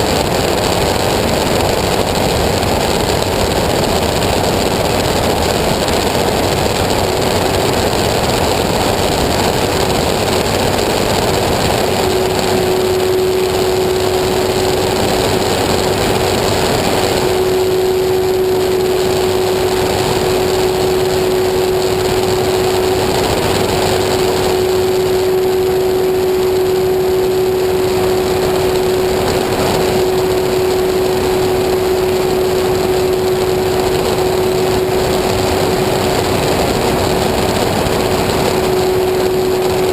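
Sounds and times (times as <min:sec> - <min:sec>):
light aircraft engine running: 0:00.0 - 0:39.9
steady hum: 0:00.0 - 0:39.9.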